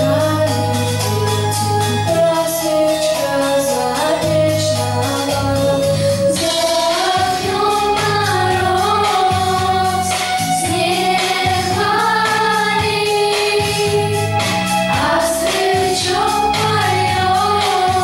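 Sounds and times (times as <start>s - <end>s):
girls singing together: 0.0s - 18.0s
instrumental accompaniment with bass: 0.0s - 18.0s.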